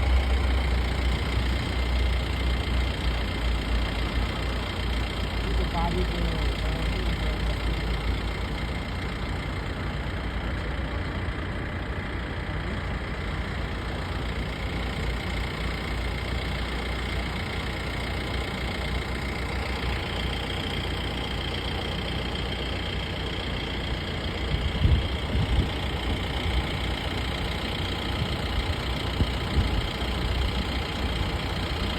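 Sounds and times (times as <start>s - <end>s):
engine running with low throb: 0.0s - 31.9s.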